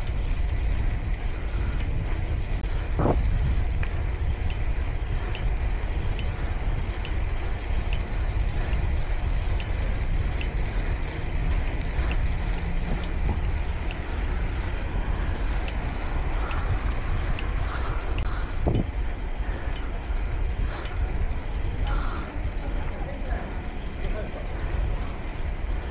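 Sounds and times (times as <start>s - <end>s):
light ticking: 0.0s - 25.9s
tyre noise on asphalt: 0.0s - 25.9s
wind buffeting microphone: 0.0s - 25.9s.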